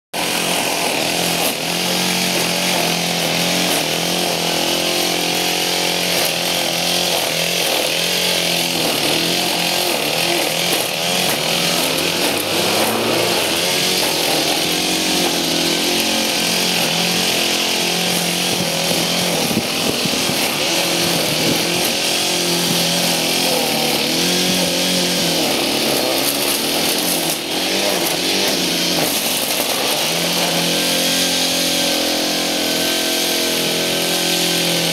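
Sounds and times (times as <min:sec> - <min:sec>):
string trimmer engine running: 0:00.1 - 0:34.9.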